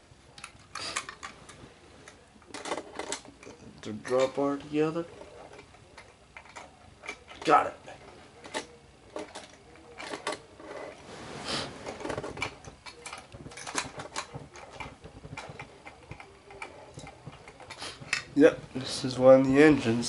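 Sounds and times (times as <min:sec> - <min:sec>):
toy train parts clicking and rustling: 0:00.3 - 0:11.0, 0:11.8 - 0:19.6.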